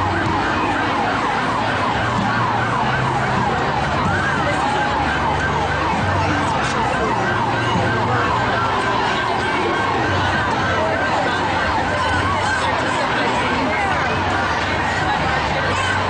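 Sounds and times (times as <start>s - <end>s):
crowd noise: 0.0s - 16.0s
yelping siren: 0.0s - 16.0s.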